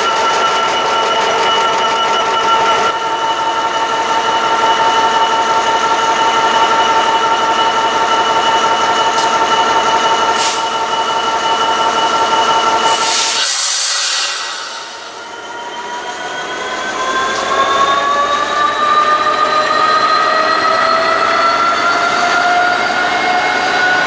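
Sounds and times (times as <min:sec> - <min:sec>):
train wheels squealing: 0:00.0 - 0:24.0.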